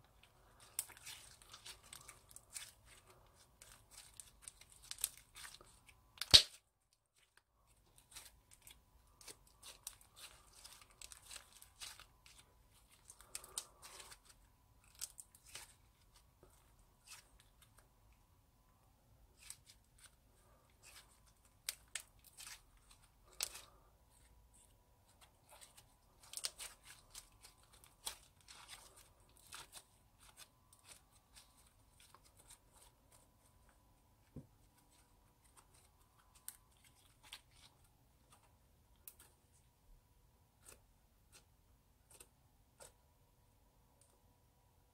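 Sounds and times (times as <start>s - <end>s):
slime squishing and crackling: 0.0s - 17.9s, 19.3s - 39.5s.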